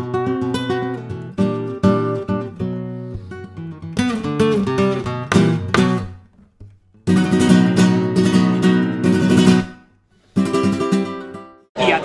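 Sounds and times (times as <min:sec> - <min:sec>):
strummed acoustic guitar chords: 0:00.0 - 0:11.6.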